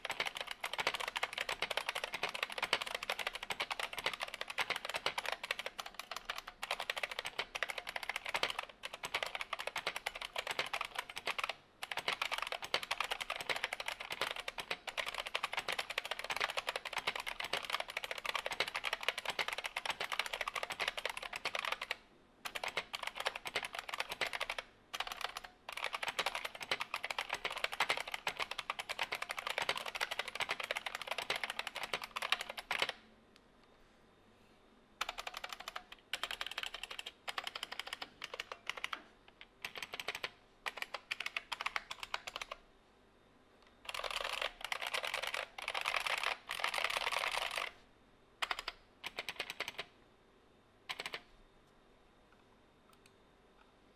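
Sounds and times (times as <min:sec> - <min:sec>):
clicky keyboard typing: 0:00.0 - 0:33.0, 0:35.0 - 0:42.6, 0:43.6 - 0:47.8, 0:48.4 - 0:49.9, 0:50.9 - 0:51.3.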